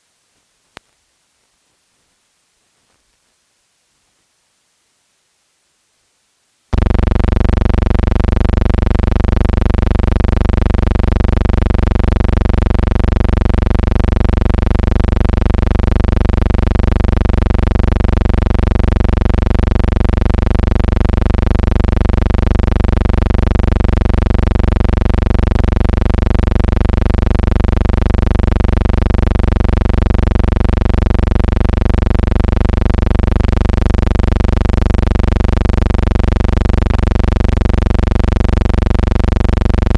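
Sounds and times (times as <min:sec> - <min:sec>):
loud steady hum: 0:06.7 - 0:39.9.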